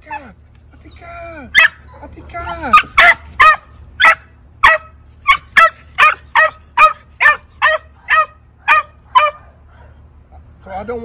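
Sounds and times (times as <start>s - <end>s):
puppy barking: 1.5s - 10.5s.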